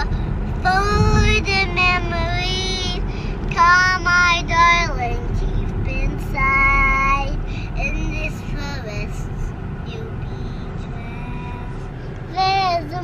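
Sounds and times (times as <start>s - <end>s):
car rumble inside cabin: 0.0s - 13.0s.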